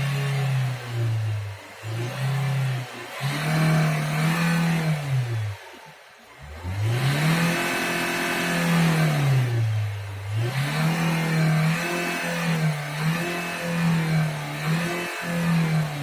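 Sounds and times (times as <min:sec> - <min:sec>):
engine revs wavering: 0:00.0 - 0:16.0.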